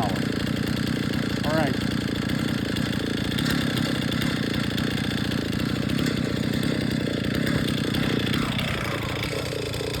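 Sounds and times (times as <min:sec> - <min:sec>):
chainsaw ripping a log: 0:00.0 - 0:10.0.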